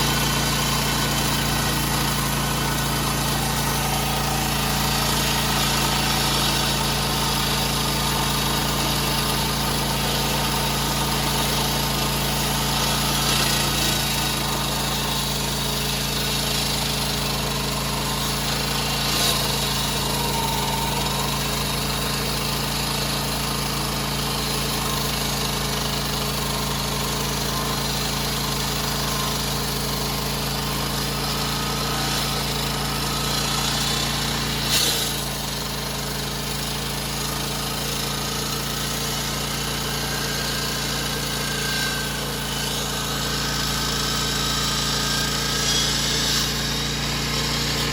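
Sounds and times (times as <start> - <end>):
generator engine humming: 0.0 - 45.6
concrete saw grinding: 0.0 - 47.9.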